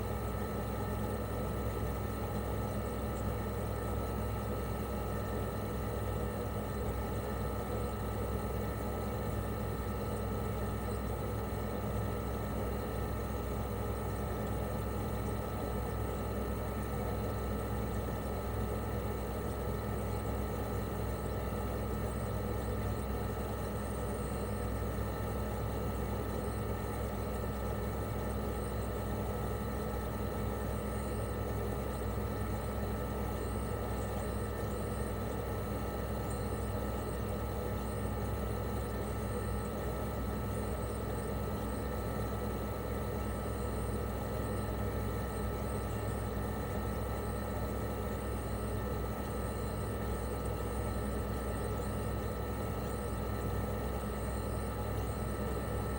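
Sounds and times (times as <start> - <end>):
air conditioner compressor hum: 0.0 - 55.9.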